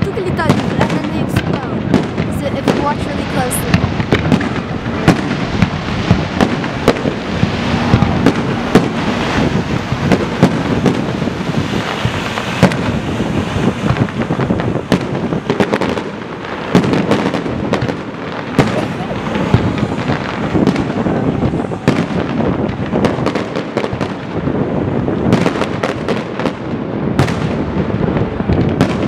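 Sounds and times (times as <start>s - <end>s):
fireworks bangs: 0.0s - 29.0s
fireworks crackle: 0.0s - 29.0s.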